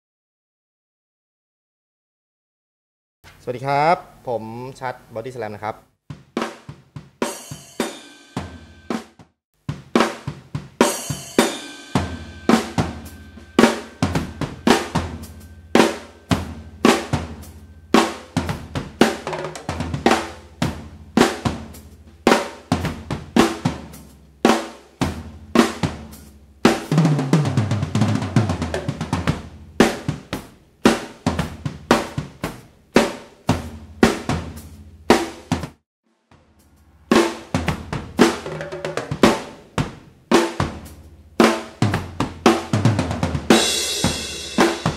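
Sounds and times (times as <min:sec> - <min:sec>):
fast tom fill: 0:06.1 - 0:35.8, 0:36.4 - 0:44.9
drum kit playing: 0:06.1 - 0:44.9.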